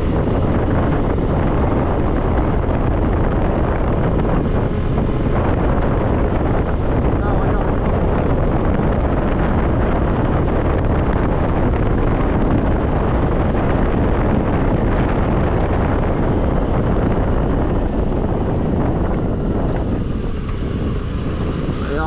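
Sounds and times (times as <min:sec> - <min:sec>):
scooter engine running: 0:00.0 - 0:22.0
wind rushing over microphone: 0:00.0 - 0:22.0.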